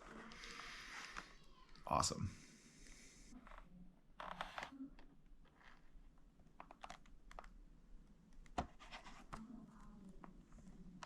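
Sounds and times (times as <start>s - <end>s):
faint clicks and rustles: 0.0s - 1.9s, 2.8s - 11.0s.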